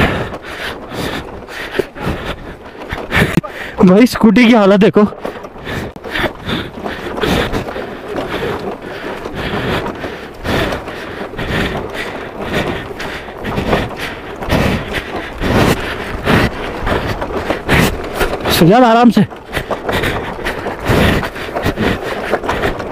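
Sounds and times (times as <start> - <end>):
crunching on gravel: 0.0 - 22.9
scooter body rattling and knocking: 0.0 - 22.9.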